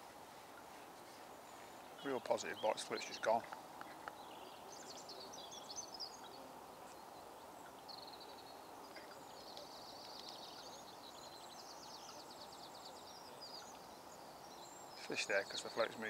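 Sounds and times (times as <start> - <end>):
faint outdoor background noise: 0.0 - 16.0
small birds chirping and trilling: 0.0 - 16.0.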